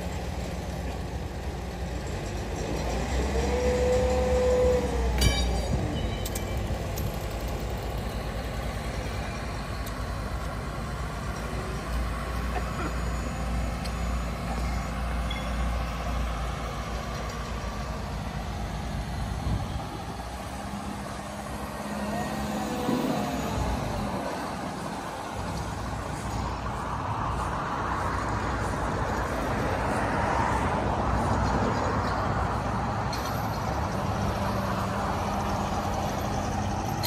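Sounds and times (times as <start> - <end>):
truck engine rumbling: 0.0 - 37.0.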